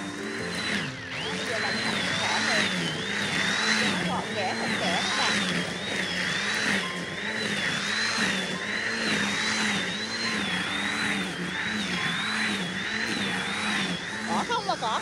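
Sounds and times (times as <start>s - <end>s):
electric string trimmer cutting grass: 0.0s - 15.0s.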